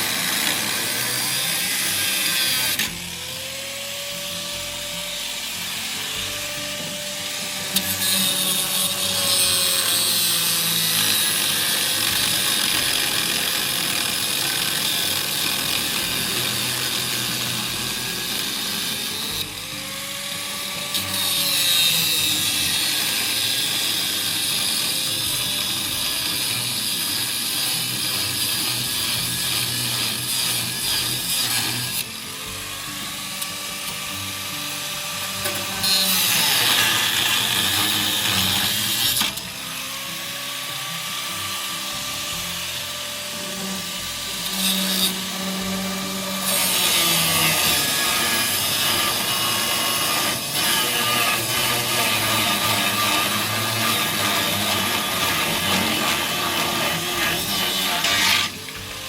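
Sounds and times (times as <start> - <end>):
angle grinder grinding metal: 0.0 - 59.0.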